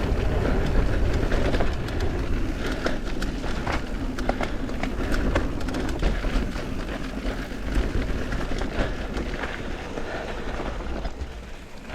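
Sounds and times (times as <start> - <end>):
bike chain and frame rattling: 0.0 - 11.9
bike tyres on dirt: 0.0 - 11.9
wind rumble on microphone: 0.0 - 11.9.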